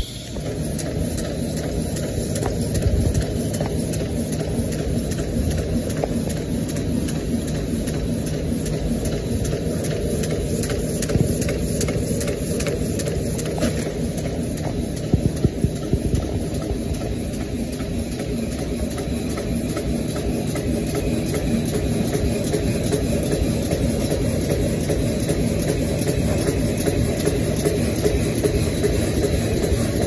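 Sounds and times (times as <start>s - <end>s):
die cutting machine clatter: 0.0s - 30.0s.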